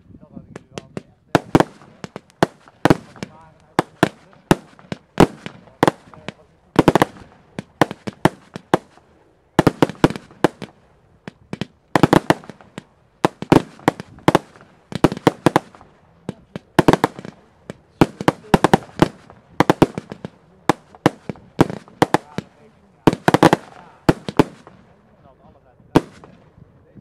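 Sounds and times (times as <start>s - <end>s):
fireworks bangs: 0.4s - 25.1s, 25.9s - 26.6s.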